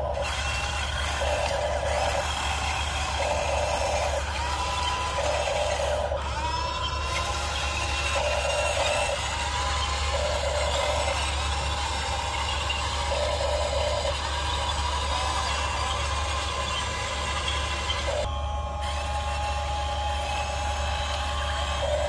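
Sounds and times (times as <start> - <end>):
thin motor whine: 0.0 - 22.0
toy excavator motors whirring: 0.0 - 22.0.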